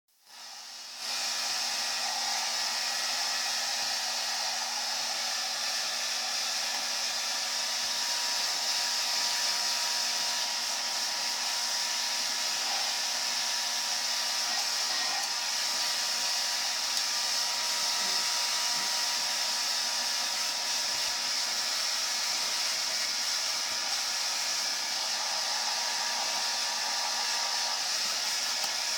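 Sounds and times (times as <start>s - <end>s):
hair dryer running: 0.2s - 28.9s.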